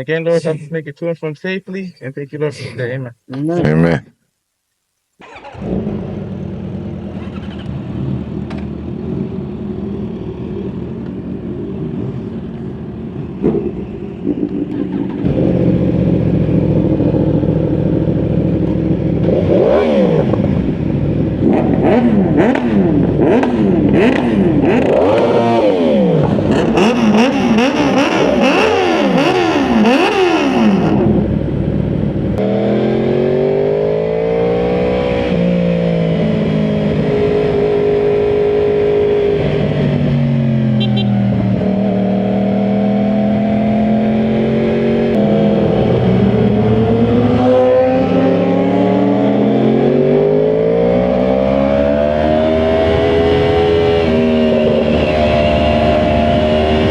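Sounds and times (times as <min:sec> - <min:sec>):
motorcycle engines revving: 0:05.2 - 0:56.9.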